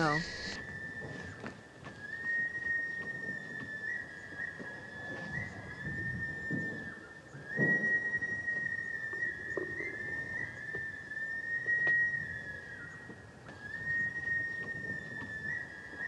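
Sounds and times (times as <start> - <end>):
whistling long high notes: 0.0 - 1.4, 2.0 - 16.0.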